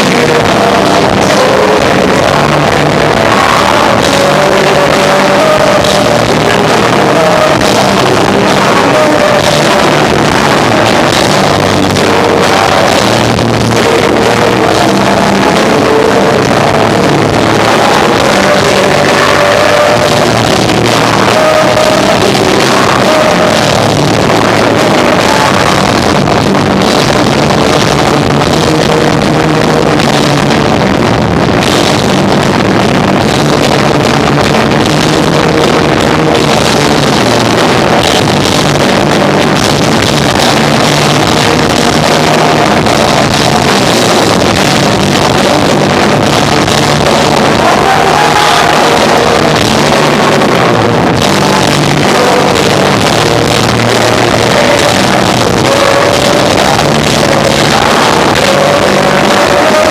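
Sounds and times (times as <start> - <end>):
distorted rock band playing: 0.0 - 59.9.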